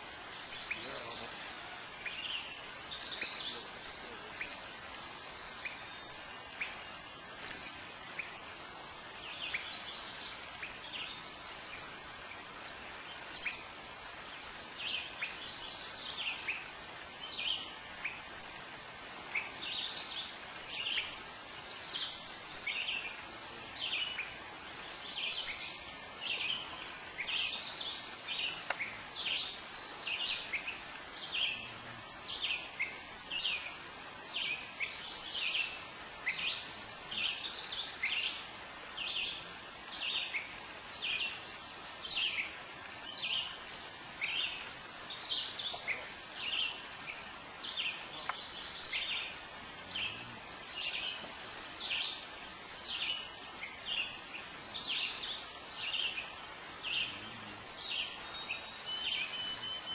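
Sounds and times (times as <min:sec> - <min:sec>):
faint steady hiss: 0:00.0 - 0:59.9
songbirds singing: 0:00.0 - 0:59.9.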